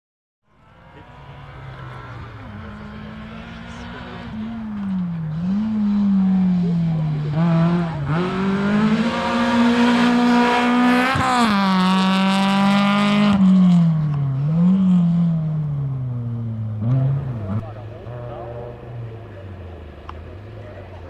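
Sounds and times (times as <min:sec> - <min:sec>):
rally car engine revving: 0:00.5 - 0:21.0.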